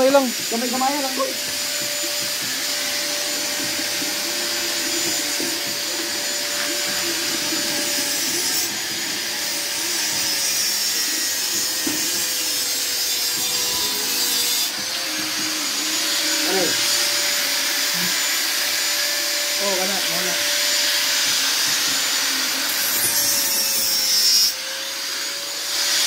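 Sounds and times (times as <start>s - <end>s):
angle grinder grinding metal: 0.0s - 26.0s.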